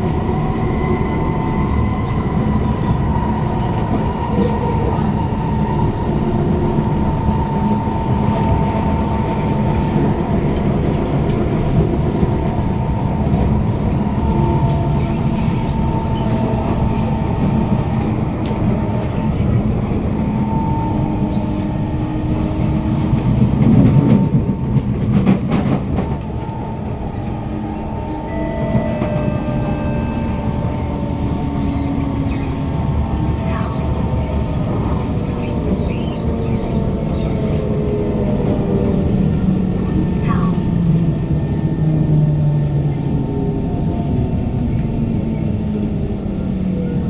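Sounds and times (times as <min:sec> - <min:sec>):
train wheels rumbling on rail: 0:00.0 - 0:47.0
traction motor whine: 0:05.3 - 0:47.0.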